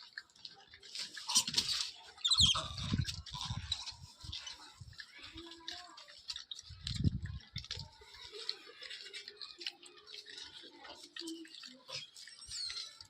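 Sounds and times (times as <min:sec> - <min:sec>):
food crunching and clicks: 0:00.0 - 0:13.0.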